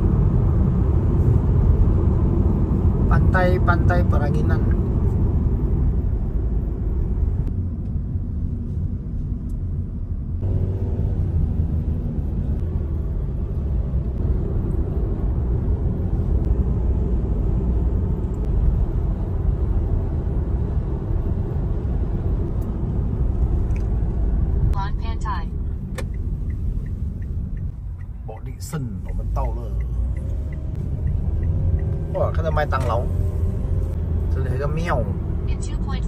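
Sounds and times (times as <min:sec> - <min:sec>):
car driving heard from inside: 0:00.0 - 0:36.0.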